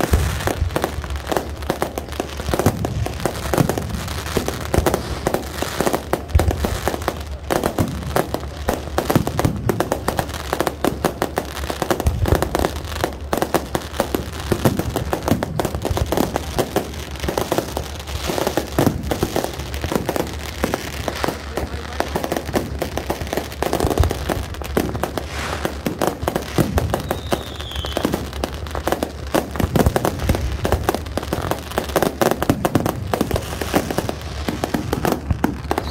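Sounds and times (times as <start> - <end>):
fireworks bangs and crackling: 0.0 - 35.9.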